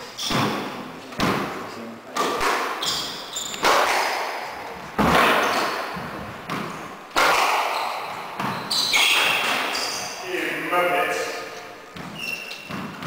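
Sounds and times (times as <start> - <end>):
squash ball hits echoing: 0.2 - 10.2, 11.1 - 13.0.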